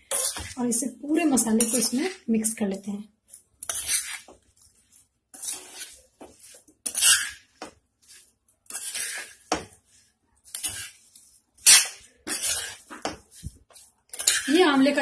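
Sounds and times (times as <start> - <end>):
spoon scraping a pan: 0.0 - 2.3, 3.3 - 15.0.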